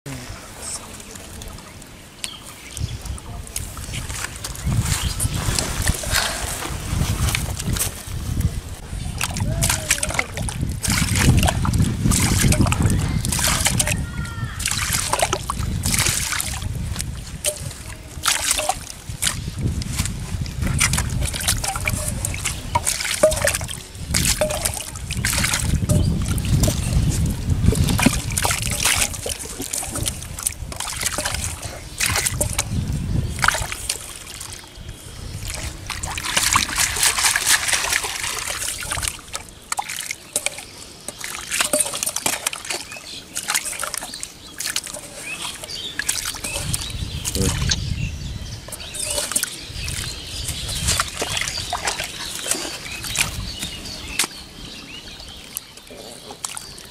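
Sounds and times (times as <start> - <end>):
trickling water: 0.1 - 56.9
hands sloshing wet mud: 0.8 - 56.9.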